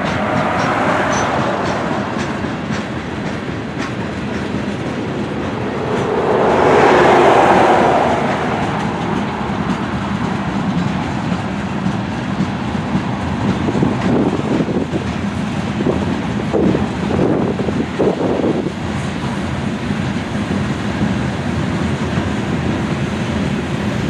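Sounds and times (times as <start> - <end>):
freight train rumble: 0.0 - 24.0
train wheels clacking over rail joints: 0.0 - 24.0.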